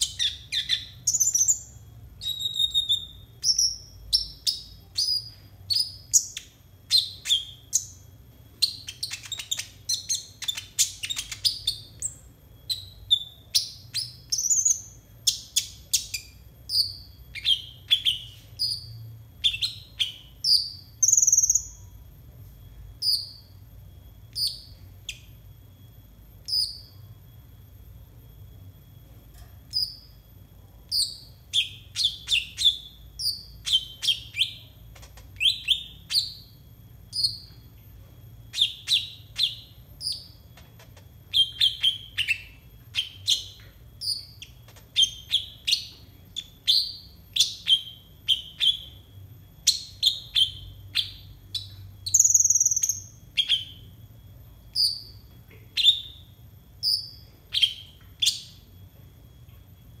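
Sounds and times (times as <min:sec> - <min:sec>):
sunbird chirping: 0:00.0 - 0:27.5, 0:29.5 - 0:58.7.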